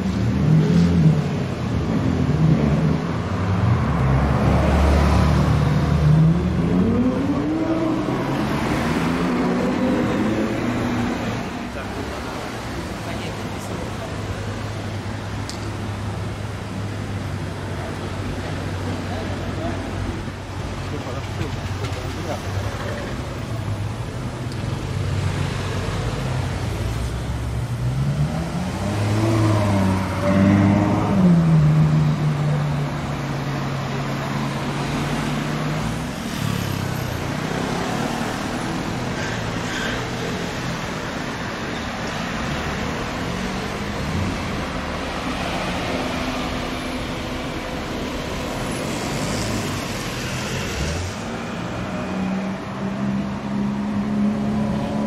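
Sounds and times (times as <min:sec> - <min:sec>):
car engines in slow traffic: 0:00.0 - 0:55.0.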